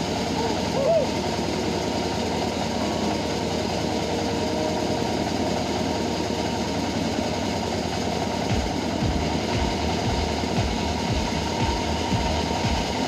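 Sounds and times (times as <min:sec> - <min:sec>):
bandsaw sawmill drone: 0:00.0 - 0:13.0.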